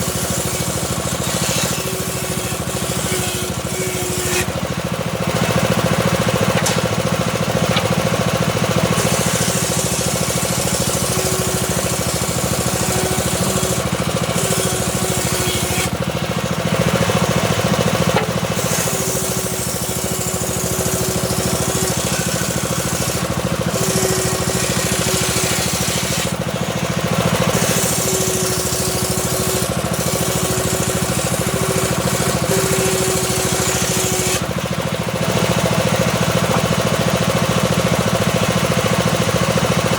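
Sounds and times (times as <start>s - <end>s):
circular saw cutting log: 0.0s - 39.9s.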